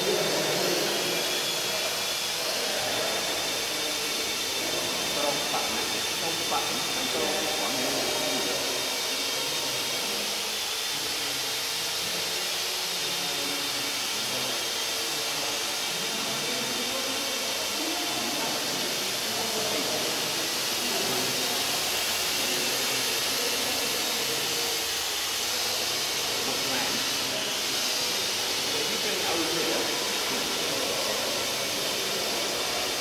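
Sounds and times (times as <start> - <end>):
drone rotors whirring: 0.0 - 33.0.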